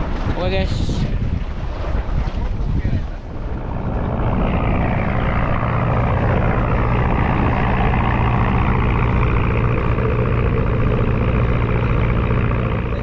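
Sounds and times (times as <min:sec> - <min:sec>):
boat diesel engine droning: 0:01.5 - 0:13.0.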